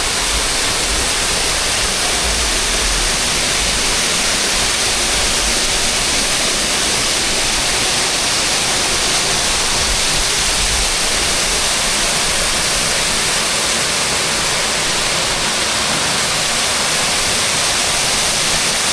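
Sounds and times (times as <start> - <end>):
waterfall roar: 0.0 - 18.9.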